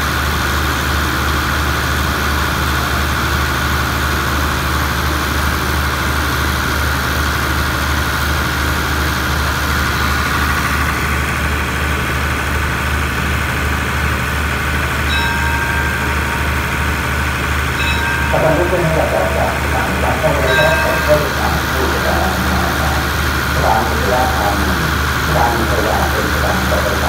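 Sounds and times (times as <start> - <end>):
train diesel engine idling: 0.0 - 27.0.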